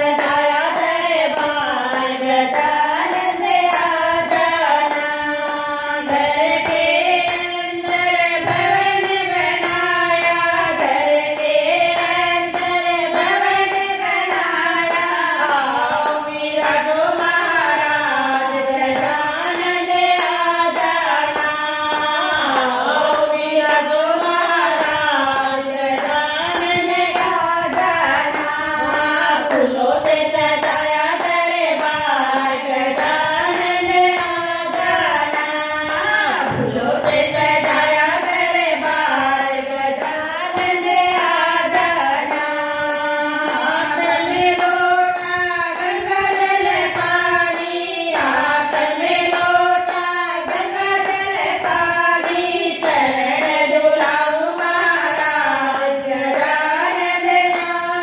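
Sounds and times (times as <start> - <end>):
hand-clapping: 0.0 - 58.0
women singing devotional song: 0.0 - 58.0.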